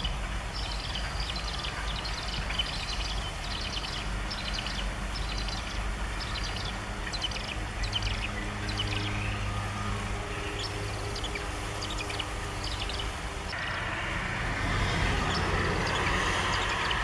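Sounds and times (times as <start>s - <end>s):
broad rushing noise: 0.0s - 17.0s
small birds chirping: 0.0s - 17.0s
steady low hum: 0.0s - 17.0s.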